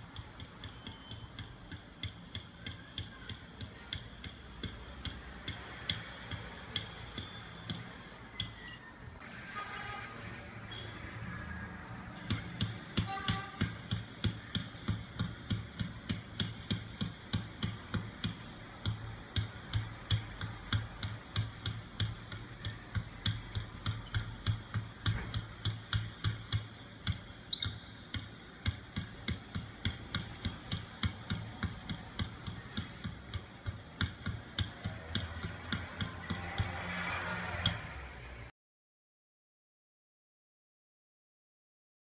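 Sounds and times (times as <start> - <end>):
basketball bouncing on wooden floor: 0.1 - 8.7, 12.2 - 37.9.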